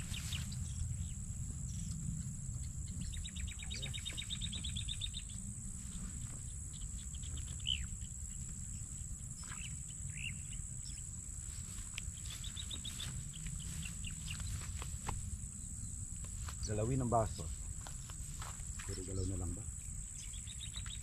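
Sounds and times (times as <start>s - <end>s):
low rumble: 0.0s - 18.8s
birds calling: 0.0s - 21.0s
insects buzzing: 0.0s - 21.0s.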